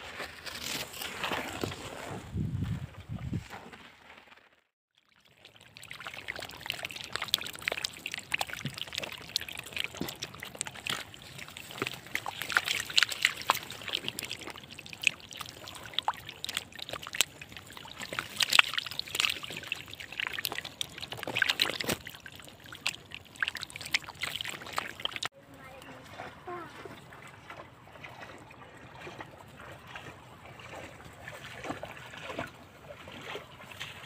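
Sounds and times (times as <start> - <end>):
water splashing and trickling: 0.1 - 34.0
small sharp splashes: 5.0 - 34.0.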